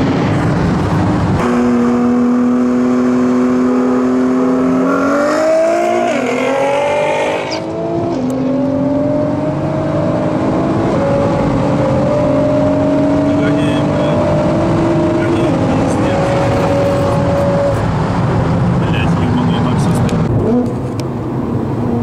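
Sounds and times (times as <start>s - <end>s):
car engine accelerating: 0.0s - 22.0s
road and wind noise: 0.0s - 22.0s.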